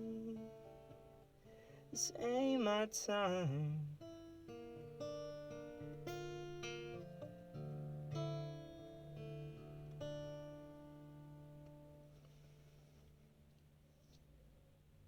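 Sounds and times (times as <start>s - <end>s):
acoustic guitar chords: 0.0s - 12.8s.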